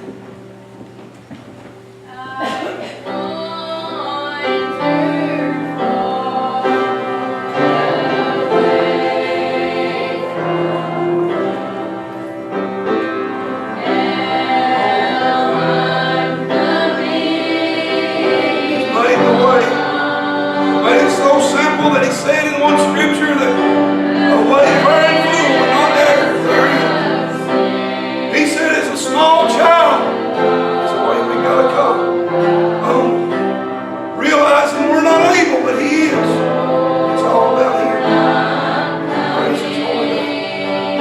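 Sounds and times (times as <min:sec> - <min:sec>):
group singing a slow hymn: 0:02.1 - 0:41.0.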